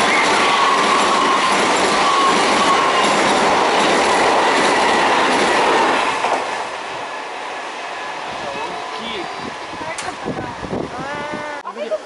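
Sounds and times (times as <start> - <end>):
train wheels rumbling on rails: 0.0 - 11.4.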